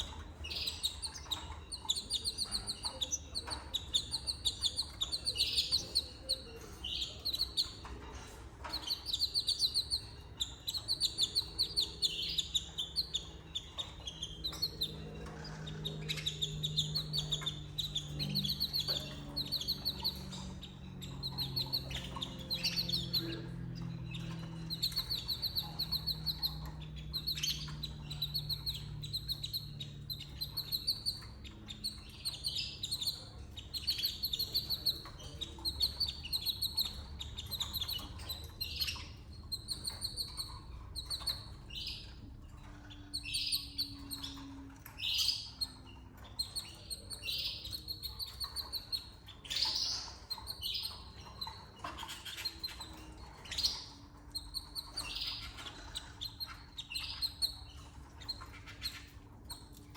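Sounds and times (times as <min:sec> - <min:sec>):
canaries chirping: 0:00.0 - 0:59.9
faint low hum: 0:00.0 - 0:59.9.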